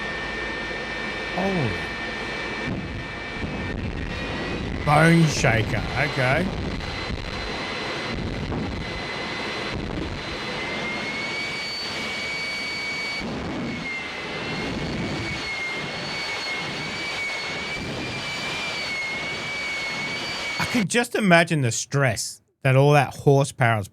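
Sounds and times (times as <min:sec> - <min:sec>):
turbine engine with high whine: 0:00.0 - 0:20.9.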